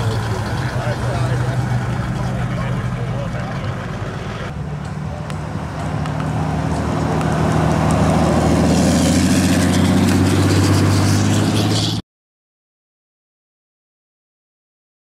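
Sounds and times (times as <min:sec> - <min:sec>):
pickup truck engine passing by: 0:00.0 - 0:12.0.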